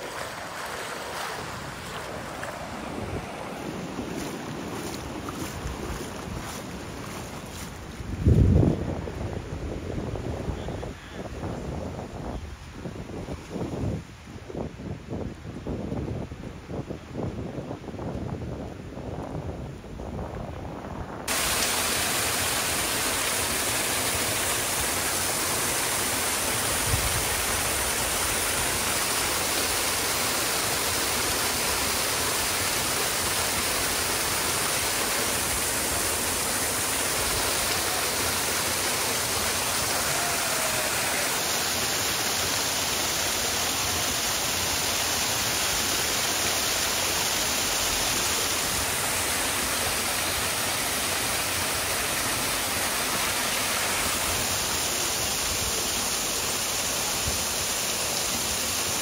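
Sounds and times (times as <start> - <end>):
water rushing: 0.0 - 10.5, 21.3 - 59.0.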